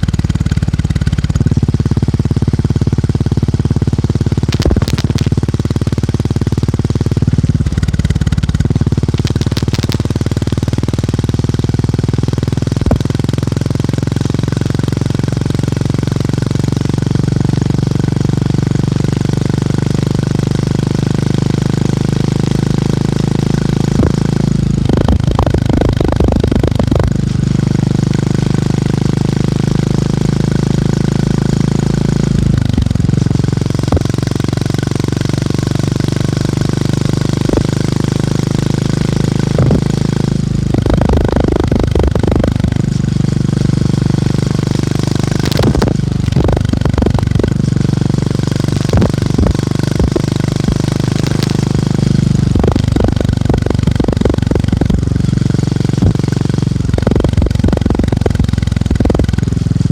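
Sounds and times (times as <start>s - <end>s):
motorcycle engine thumping: 0.0s - 59.9s.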